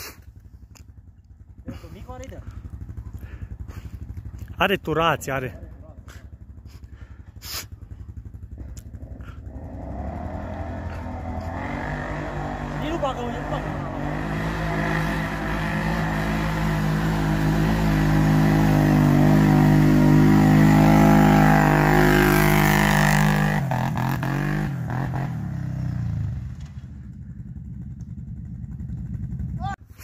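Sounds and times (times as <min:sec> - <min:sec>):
quad bike engine revving: 0:01.6 - 0:29.7.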